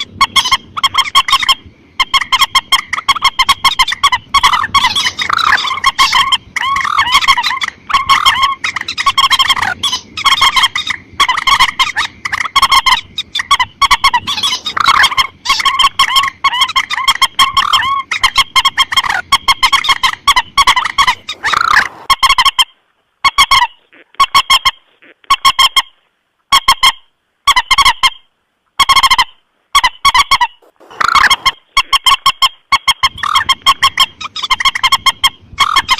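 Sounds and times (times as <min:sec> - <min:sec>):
moorhen harsh honking calls: 0:00.0 - 0:25.9, 0:28.8 - 0:35.9.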